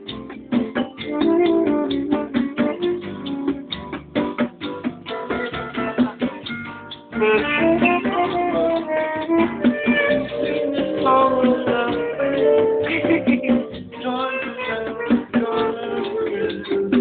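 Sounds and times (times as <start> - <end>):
guitar playing: 0.0 - 17.0.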